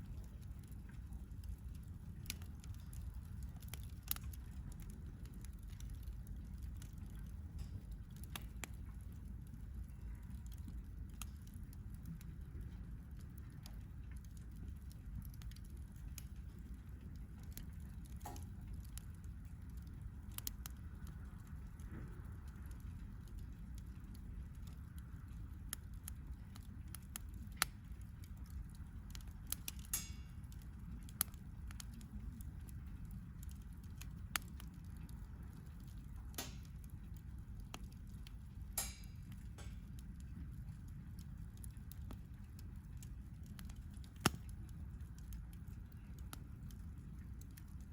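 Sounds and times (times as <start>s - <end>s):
campfire crackling and popping: 0.0s - 47.9s
low steady fire rumble: 0.0s - 47.9s.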